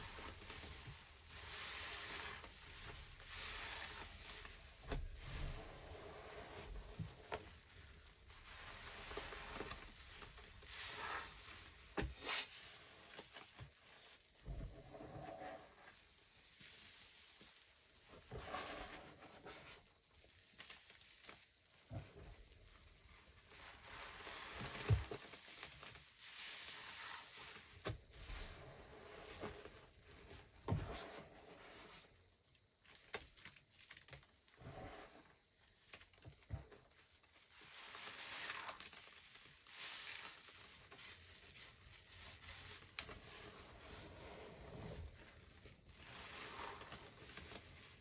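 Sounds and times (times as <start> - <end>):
foamy sponge squelching: 0.0 - 32.2, 34.6 - 48.0.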